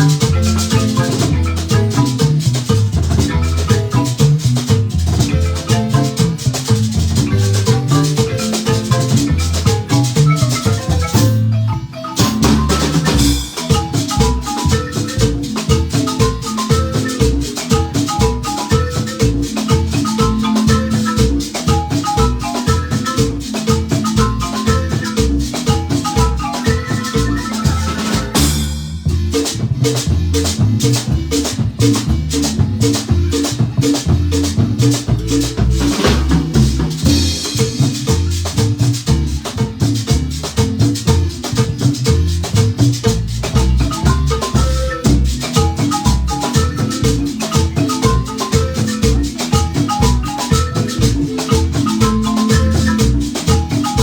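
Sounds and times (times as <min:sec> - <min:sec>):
marimba ensemble dance tune: 0:00.0 - 0:54.0
percussion steady beat: 0:00.0 - 0:54.0.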